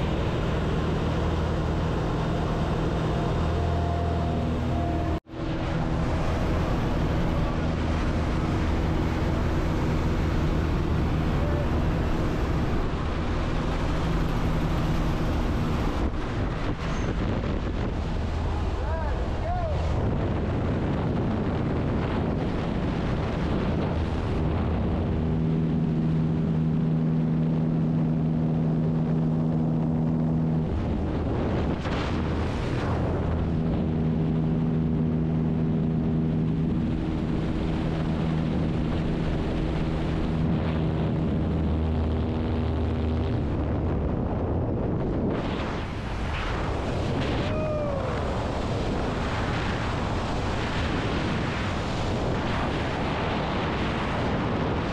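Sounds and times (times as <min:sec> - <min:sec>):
low droning tones: 0:00.0 - 0:53.3
wind rushing over microphone: 0:00.0 - 0:54.9.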